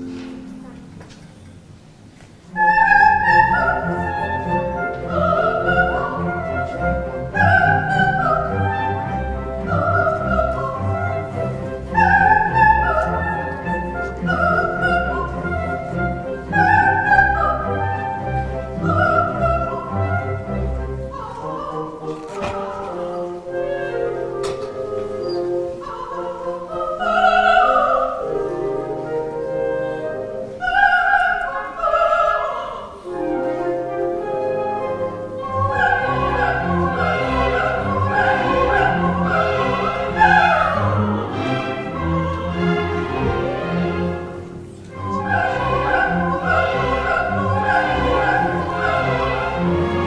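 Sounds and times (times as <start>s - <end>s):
orchestra playing: 0.0s - 50.0s
soprano singing: 2.4s - 50.0s.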